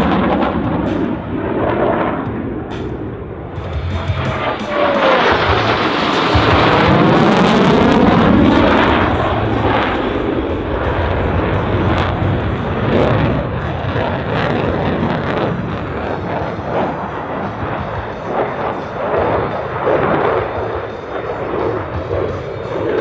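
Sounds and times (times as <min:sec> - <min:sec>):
jet engine roaring past: 0:00.0 - 0:23.0.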